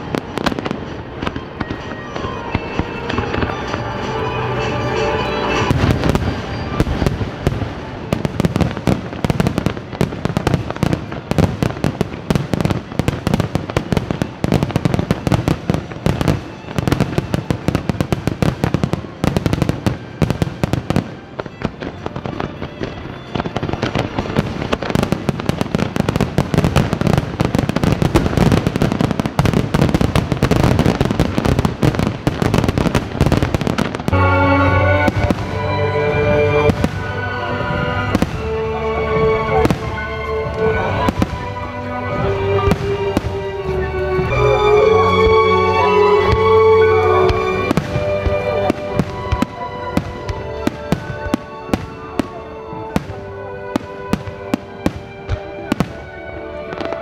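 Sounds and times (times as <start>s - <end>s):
fireworks bursting and crackling: 0.0s - 57.0s
music: 0.0s - 57.0s.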